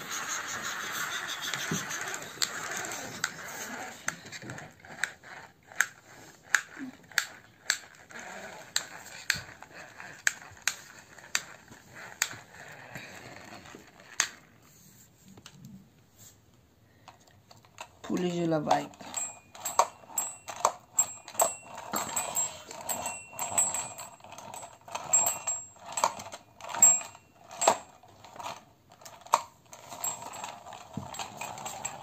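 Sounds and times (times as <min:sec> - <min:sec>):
toy tricycle clicking: 0:00.0 - 0:14.5, 0:17.2 - 0:32.0.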